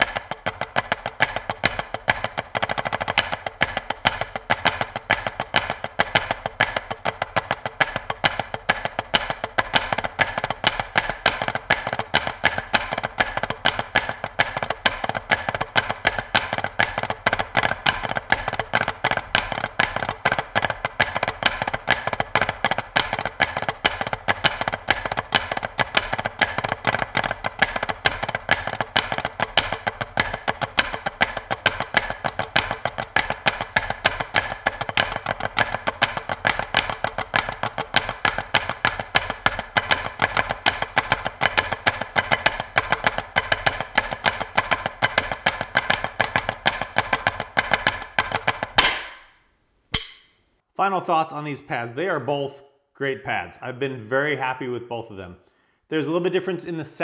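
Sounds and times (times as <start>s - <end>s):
drumsticks striking practice pads: 0.0s - 50.5s.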